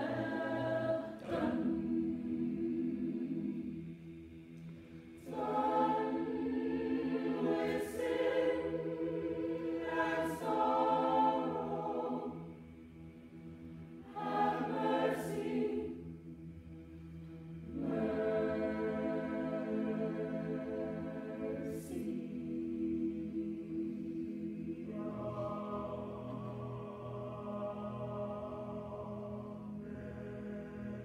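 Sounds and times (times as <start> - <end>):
choir singing a hymn: 0.0 - 31.0.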